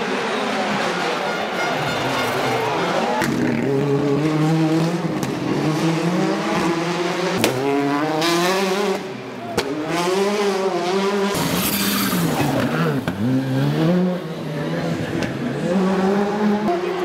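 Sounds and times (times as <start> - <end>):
rally car engines accelerating: 0.0 - 17.0.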